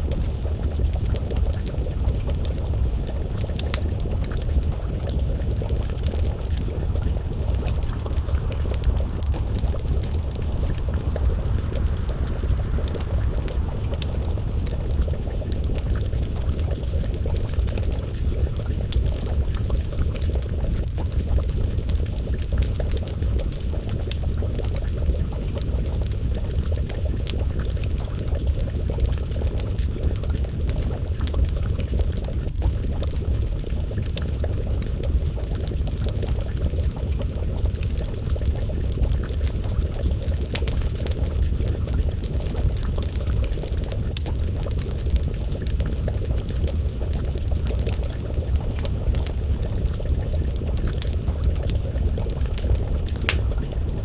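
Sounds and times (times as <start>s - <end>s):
steady low rumble: 0.0s - 54.0s
stew bubbling in a pot: 0.0s - 54.0s
wood fire crackling: 0.0s - 54.0s.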